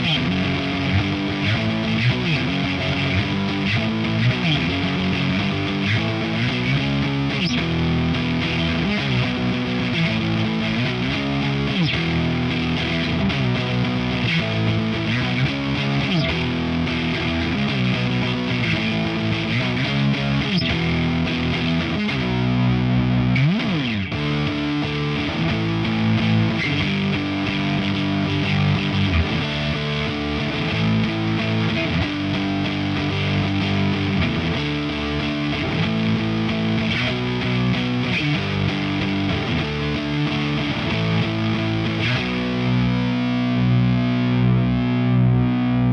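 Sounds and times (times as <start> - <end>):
distorted electric guitar: 0.0 - 45.9.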